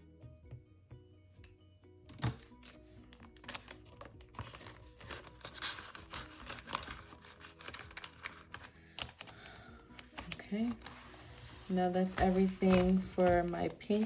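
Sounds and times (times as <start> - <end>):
soft background music: 0.0 - 14.0
paper banknotes rustling: 2.1 - 14.0
plastic binder pocket crinkling: 2.1 - 14.0.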